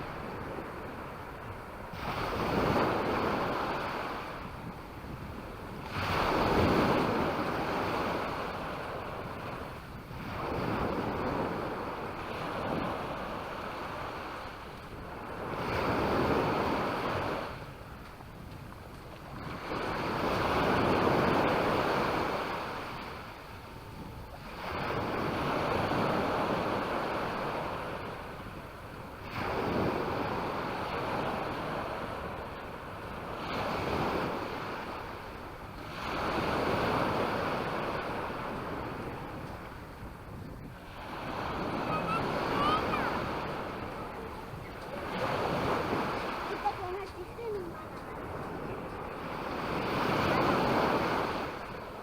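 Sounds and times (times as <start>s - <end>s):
sea waves breaking on beach: 0.0s - 52.0s.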